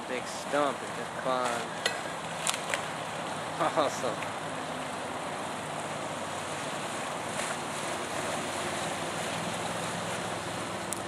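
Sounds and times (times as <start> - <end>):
wheels churning water: 0.0 - 11.0
vehicle engine humming: 0.6 - 11.0.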